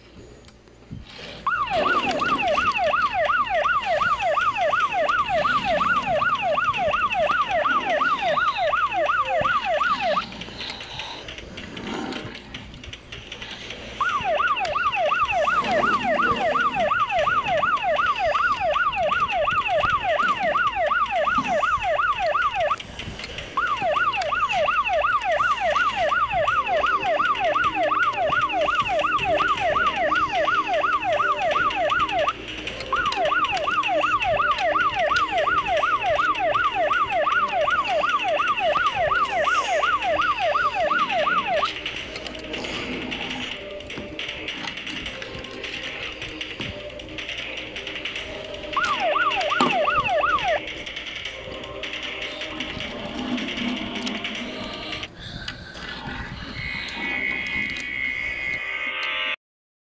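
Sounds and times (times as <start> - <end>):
electronic siren yelping: 1.3 - 12.4, 14.0 - 55.1, 56.3 - 59.4.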